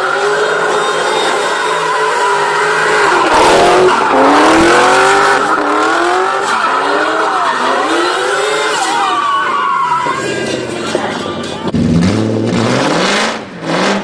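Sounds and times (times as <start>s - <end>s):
car engine revving: 0.0s - 9.1s, 10.2s - 14.0s
tyres squealing: 0.0s - 11.7s.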